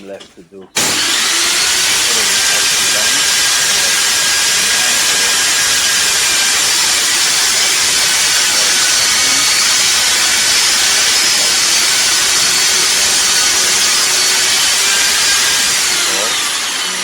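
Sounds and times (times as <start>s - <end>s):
table saw cutting wood: 0.8s - 17.0s.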